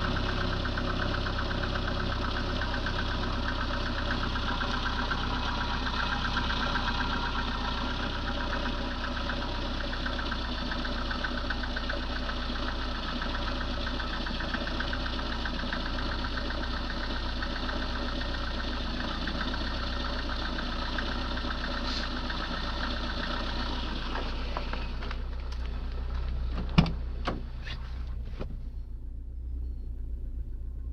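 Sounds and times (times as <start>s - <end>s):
car engine idling with tapping knock: 0.0s - 30.9s.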